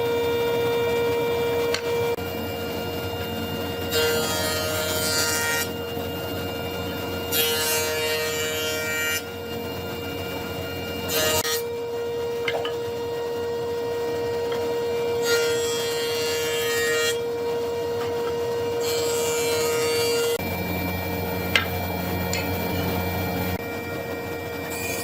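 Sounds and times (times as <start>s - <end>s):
power tool whine: 0.0s - 25.0s.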